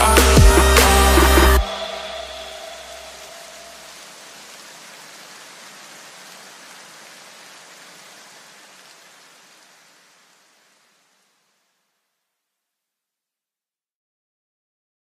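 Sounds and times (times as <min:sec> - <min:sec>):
faint hiss: 0:00.2 - 0:13.1.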